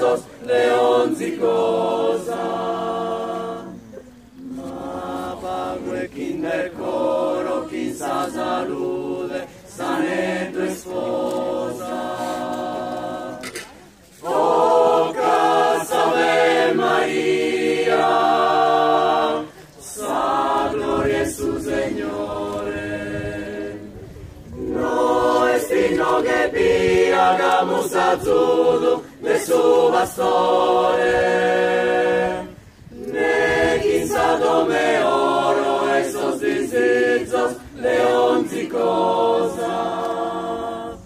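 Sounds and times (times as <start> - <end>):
choir singing a cappella: 0.0 - 41.0.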